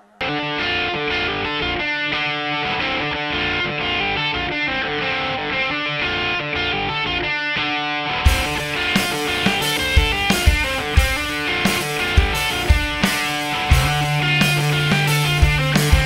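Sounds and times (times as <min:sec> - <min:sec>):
rock music with distorted electric guitar: 0:00.2 - 0:16.0.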